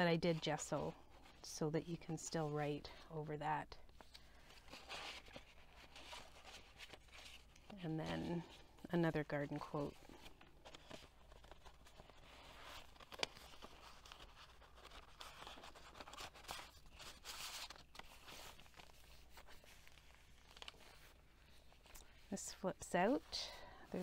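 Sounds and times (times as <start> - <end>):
paper pages rustling: 3.8 - 24.0.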